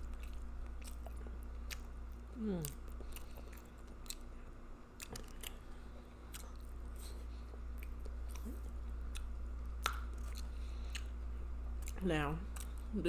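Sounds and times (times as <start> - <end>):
chewing with mouth smacks: 0.0 - 12.9.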